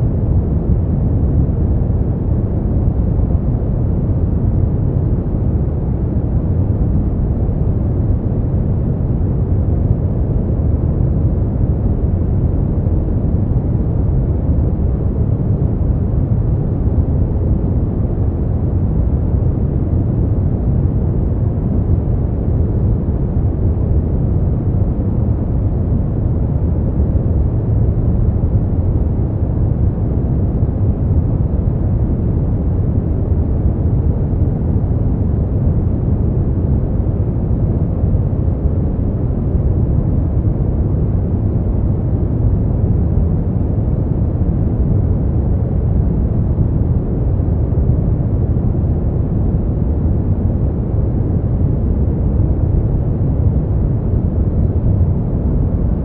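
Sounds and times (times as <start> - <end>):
deep rumbling noise: 0.0 - 56.0.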